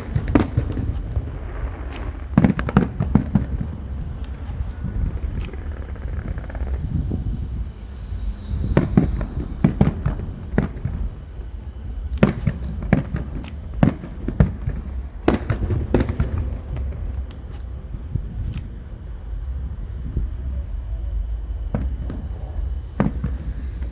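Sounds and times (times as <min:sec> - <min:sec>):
fireworks bangs: 0:00.0 - 0:23.9
low rumble: 0:00.0 - 0:23.9.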